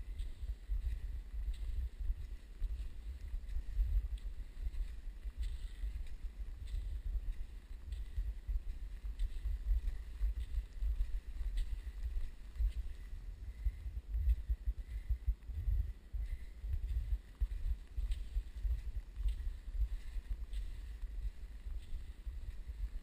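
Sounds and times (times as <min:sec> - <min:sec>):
skis and poles ticking on snow: 0:00.0 - 0:15.7, 0:16.3 - 0:23.0
wind buffeting microphone: 0:00.0 - 0:23.0.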